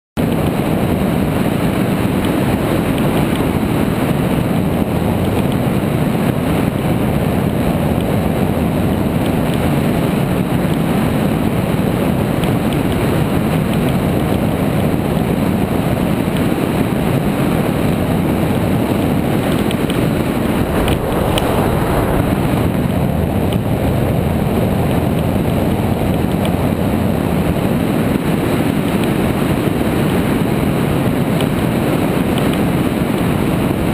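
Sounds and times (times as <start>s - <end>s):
wind rushing over microphone: 0.2s - 33.9s.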